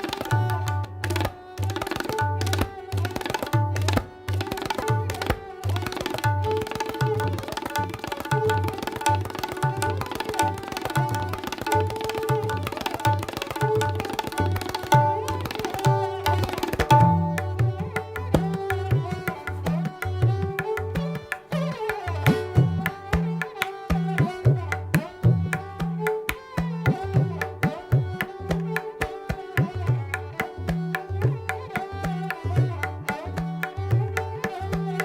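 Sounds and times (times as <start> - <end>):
sarangi sliding notes: 0.0 - 35.0
tabla playing fast strokes: 0.0 - 35.0.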